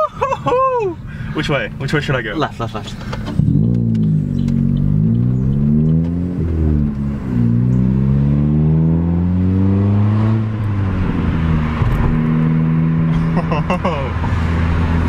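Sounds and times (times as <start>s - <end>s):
car engine accelerating: 2.6s - 15.0s.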